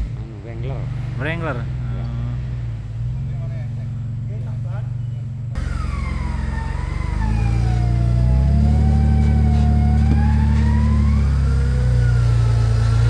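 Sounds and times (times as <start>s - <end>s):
engine working hard under load: 0.0s - 13.0s.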